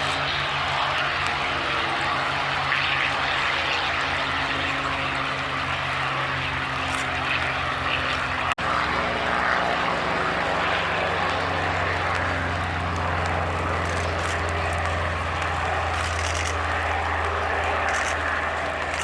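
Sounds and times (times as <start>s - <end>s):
propeller plane engine: 0.0s - 19.0s.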